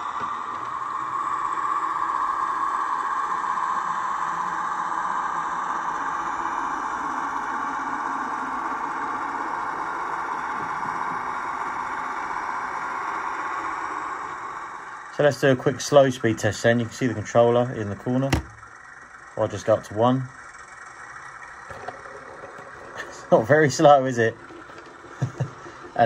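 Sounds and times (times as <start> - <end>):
model diesel engine sound: 0.0 - 26.0.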